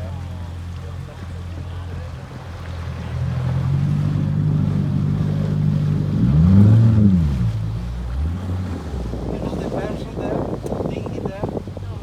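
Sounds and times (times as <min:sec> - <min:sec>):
motorboat engine revving: 0:00.0 - 0:12.0.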